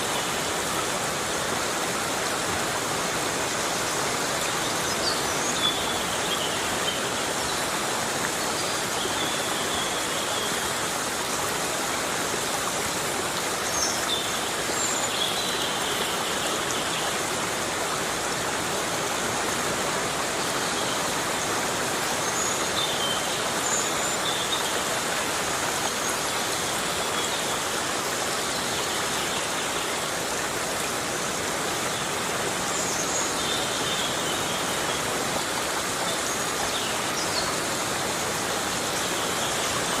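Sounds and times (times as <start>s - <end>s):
heavy rain in a forest: 0.0s - 40.0s.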